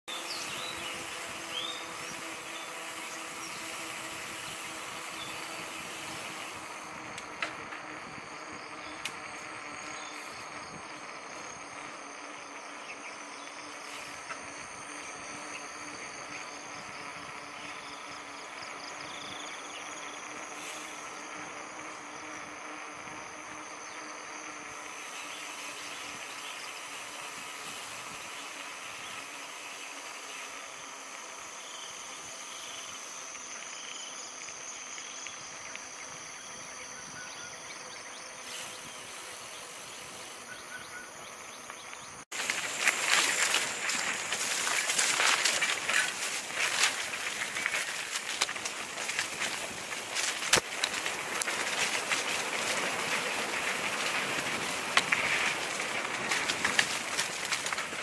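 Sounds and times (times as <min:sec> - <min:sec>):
bike tyres rolling on pavement: 0:00.1 - 0:58.0
insects chirping: 0:00.1 - 0:58.0.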